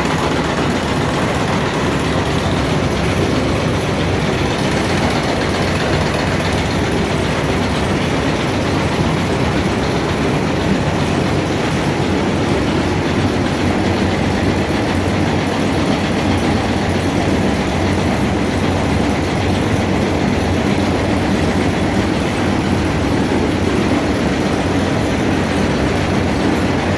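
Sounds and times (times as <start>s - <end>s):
shredding machine running: 0.0s - 26.9s.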